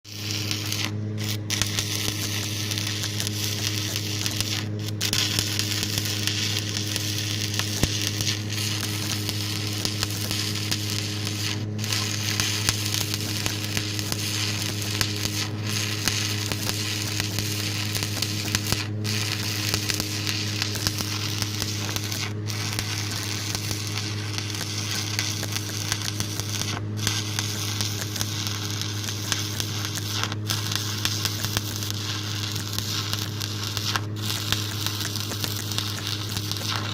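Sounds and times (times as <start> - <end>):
arc welding sizzling and crackling: 0.0 - 36.9
low hum: 0.1 - 36.9.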